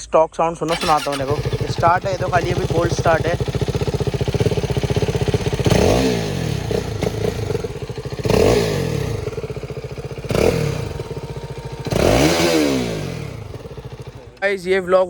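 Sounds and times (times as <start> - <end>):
engine throttle blips: 0.7 - 15.0
motorcycle engine idling: 0.7 - 15.0.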